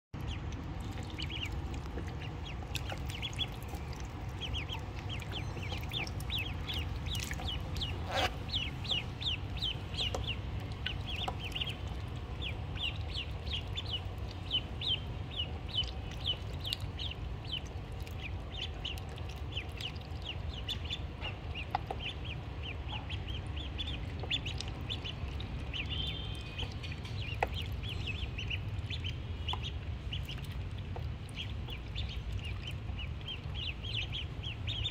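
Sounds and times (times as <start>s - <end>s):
ducklings peeping: 0.2s - 34.9s
steady low rumble: 0.2s - 34.9s.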